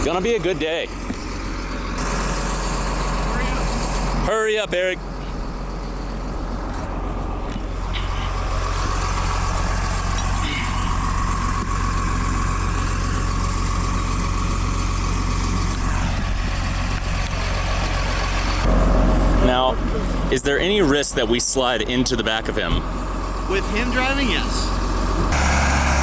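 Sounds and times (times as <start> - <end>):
steady whine: 0.0 - 26.0
vehicle engine running: 0.0 - 26.0.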